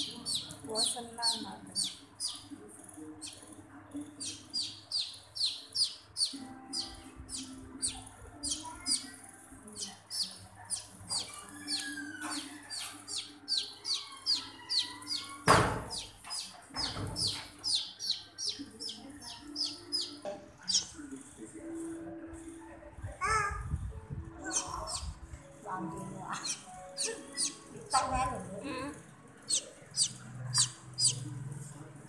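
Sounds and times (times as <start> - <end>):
baby chick peeping: 0.0 - 21.2, 23.2 - 25.3, 26.2 - 31.4.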